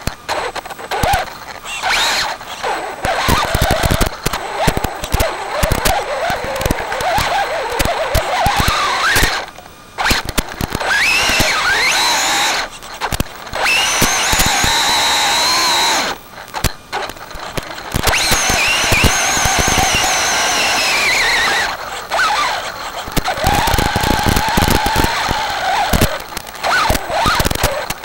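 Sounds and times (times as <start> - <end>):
rc truck motor whining: 0.0 - 28.0
sharp clicks from chassis: 3.0 - 15.4, 16.0 - 28.0.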